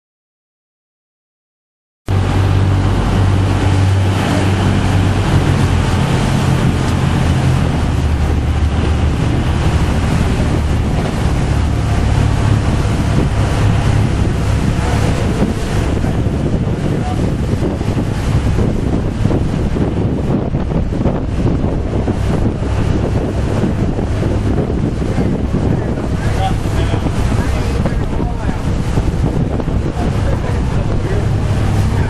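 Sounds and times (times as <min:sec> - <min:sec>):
motorboat engine running: 0:02.1 - 0:32.0
water rushing past hull: 0:02.1 - 0:32.0
wind buffeting microphone: 0:02.1 - 0:32.0.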